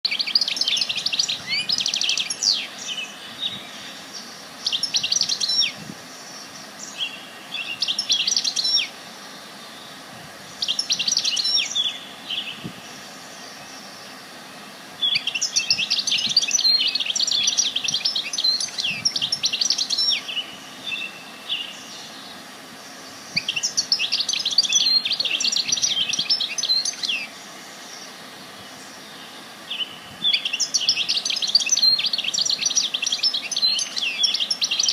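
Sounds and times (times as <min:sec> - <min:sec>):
songbird chirps and trills: 0:00.0 - 0:34.9
steady background hiss: 0:00.0 - 0:34.9.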